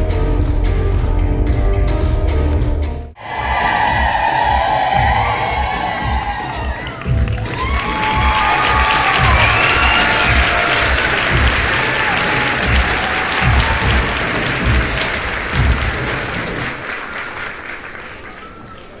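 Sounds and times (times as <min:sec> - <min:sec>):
music with low beat: 0:00.0 - 0:16.8
audience applauding: 0:03.2 - 0:19.0.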